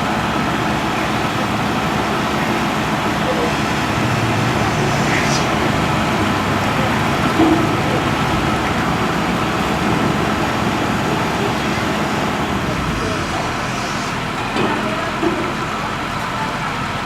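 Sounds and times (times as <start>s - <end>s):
excavator diesel engine running: 0.0s - 17.0s
faint voices: 0.0s - 17.0s
hydraulic whine: 0.0s - 17.0s.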